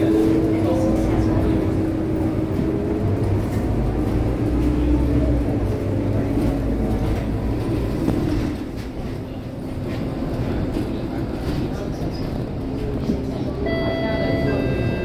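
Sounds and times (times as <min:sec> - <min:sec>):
bus diesel engine drone: 0:00.0 - 0:15.0.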